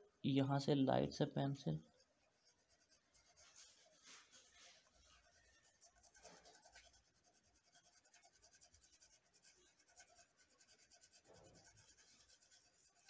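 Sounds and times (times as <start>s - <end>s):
pencil scratching on paper: 1.8s - 13.0s.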